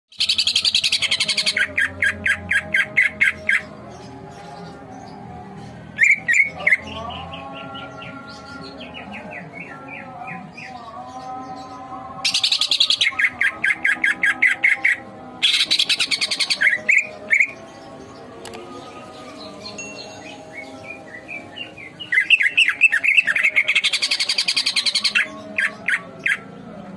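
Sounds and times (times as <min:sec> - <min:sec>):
bird singing chirps and trills: 0:00.1 - 0:26.9.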